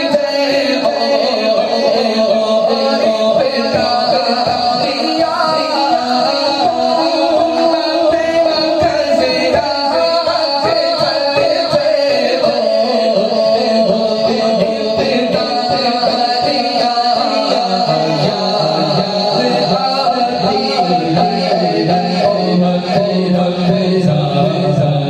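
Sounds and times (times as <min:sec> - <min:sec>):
man singing devotional poem: 0:00.0 - 0:25.0.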